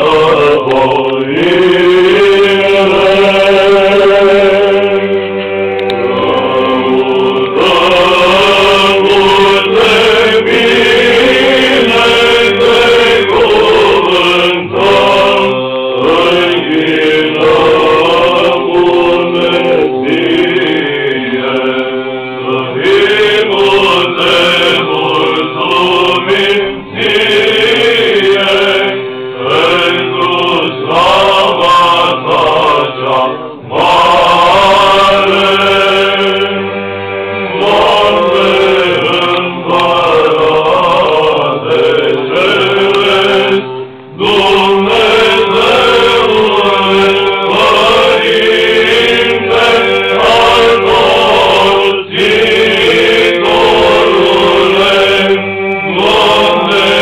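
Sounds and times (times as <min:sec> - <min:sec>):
choir chanting: 0:00.0 - 0:57.0.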